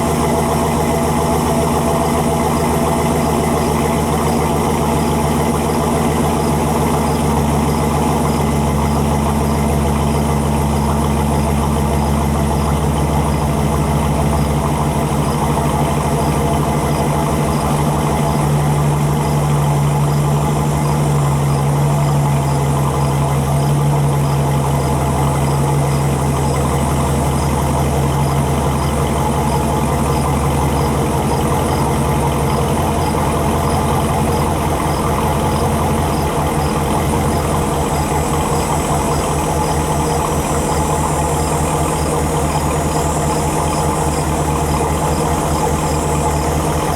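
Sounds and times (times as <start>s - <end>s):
pickup truck engine idling: 0.0s - 46.9s.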